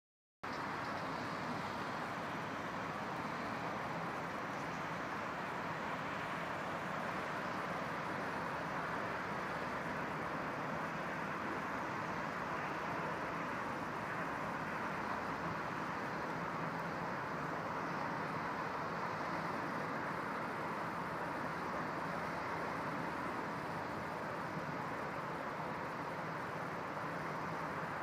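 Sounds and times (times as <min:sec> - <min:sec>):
motorway traffic rush: 0:00.4 - 0:28.0.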